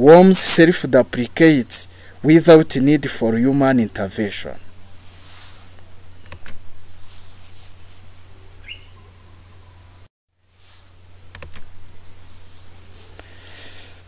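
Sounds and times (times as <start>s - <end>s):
cricket chirping: 0.0s - 14.0s
low electrical hum: 0.0s - 14.0s.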